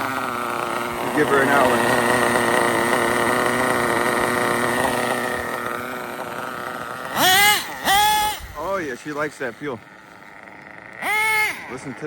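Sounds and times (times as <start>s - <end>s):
nitro model engine running: 0.0s - 12.0s.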